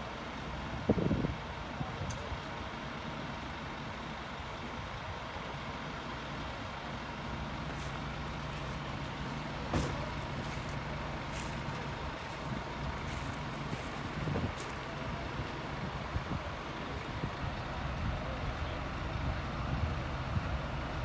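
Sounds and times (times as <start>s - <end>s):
fire engines idling: 0.0s - 21.0s.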